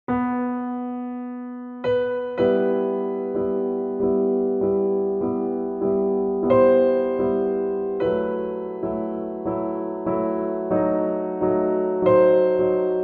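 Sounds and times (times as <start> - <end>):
soft electric piano chords: 0.1 - 13.0.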